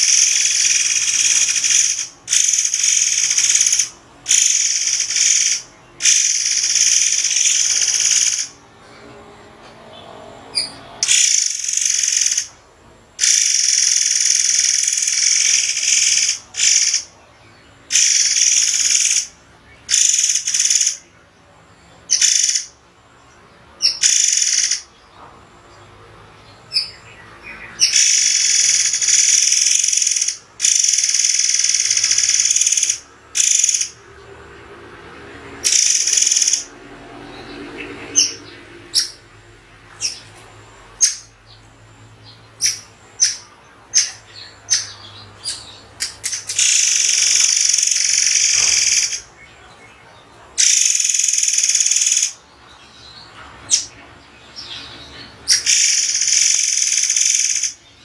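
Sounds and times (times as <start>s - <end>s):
songbird harsh high-pitched calls: 0.0s - 8.6s, 10.5s - 12.6s, 13.2s - 21.1s, 22.0s - 22.8s, 23.8s - 25.0s, 26.7s - 34.0s, 35.6s - 39.3s, 41.0s - 41.6s, 42.2s - 58.0s.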